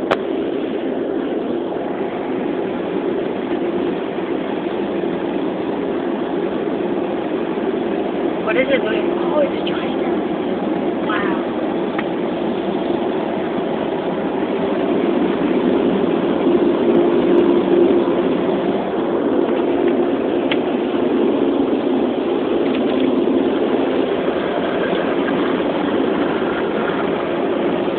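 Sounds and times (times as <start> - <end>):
car wash machinery running: 0.0 - 27.9.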